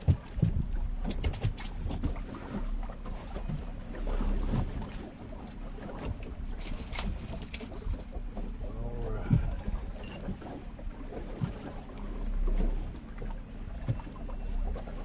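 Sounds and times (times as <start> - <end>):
waves slapping a metal boat: 0.0 - 15.0
wind rumbling on microphone: 0.0 - 15.0.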